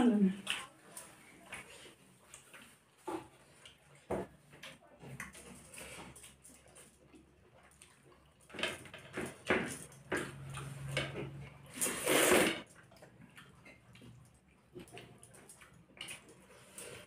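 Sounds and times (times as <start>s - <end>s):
wet chewing: 0.1s - 17.0s.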